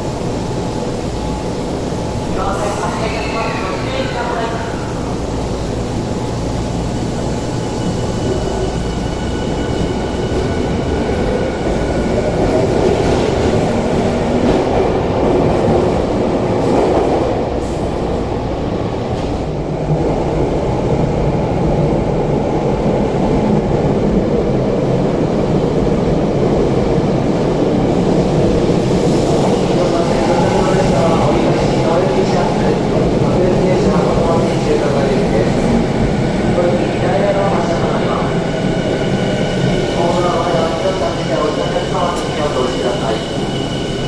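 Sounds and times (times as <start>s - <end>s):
train running past: 0.0s - 44.0s.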